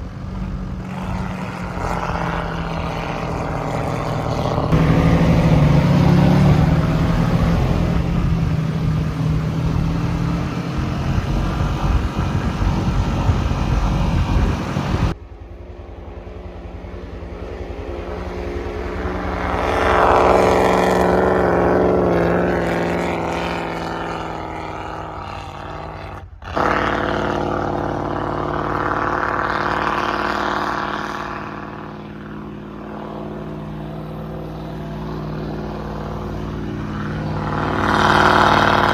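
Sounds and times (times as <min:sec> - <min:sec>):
car engine running under load: 0:00.0 - 0:38.9.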